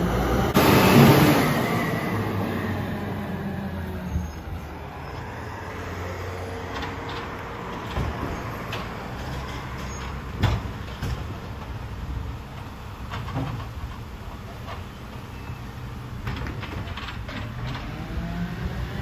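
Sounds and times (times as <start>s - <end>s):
garbage truck running: 0.0s - 19.0s.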